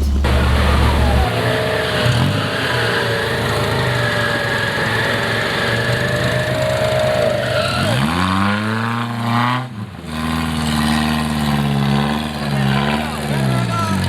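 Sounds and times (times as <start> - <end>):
engine revving hard: 0.0 - 14.0.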